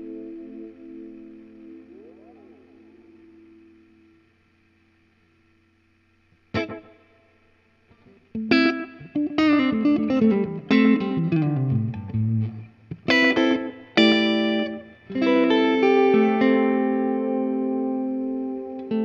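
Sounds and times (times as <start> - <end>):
electric guitar with delay and reverb: 0.0 - 4.4, 6.5 - 7.0, 8.0 - 19.0.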